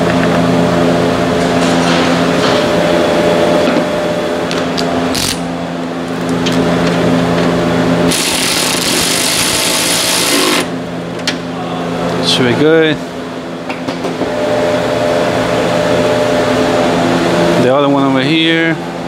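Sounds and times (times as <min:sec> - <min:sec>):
pitched machine hum: 0:00.0 - 0:19.0.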